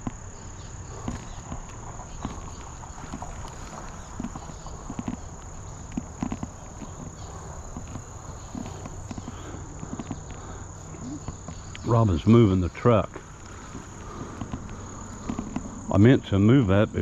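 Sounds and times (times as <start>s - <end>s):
crickets droning: 0.0s - 17.0s.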